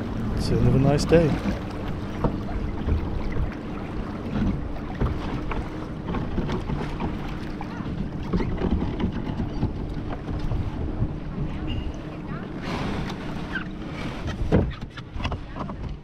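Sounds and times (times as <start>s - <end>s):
water lapping against wooden hull: 0.0s - 16.0s.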